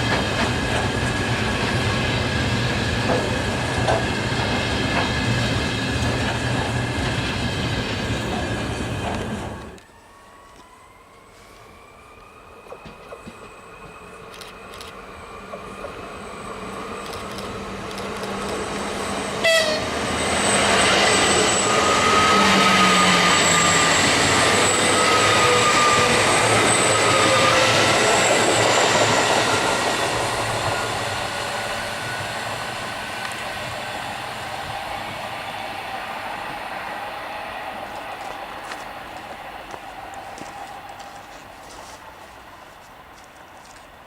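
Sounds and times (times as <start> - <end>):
train passing with electric whine: 0.0 - 44.0.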